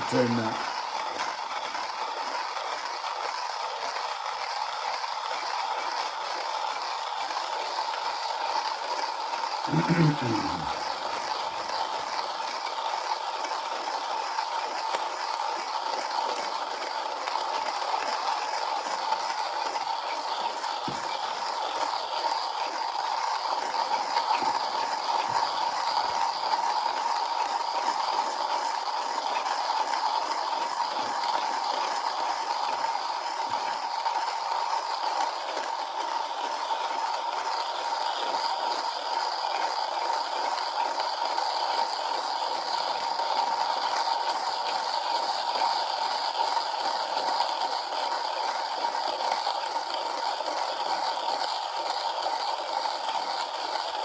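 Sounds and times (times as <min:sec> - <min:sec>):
hand coffee grinder grinding beans: 0:00.0 - 0:54.0.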